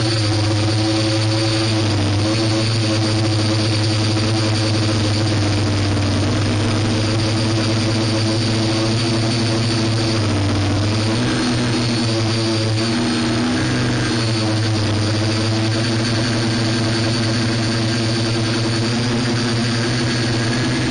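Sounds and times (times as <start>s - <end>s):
drone propellers humming: 0.0s - 20.9s.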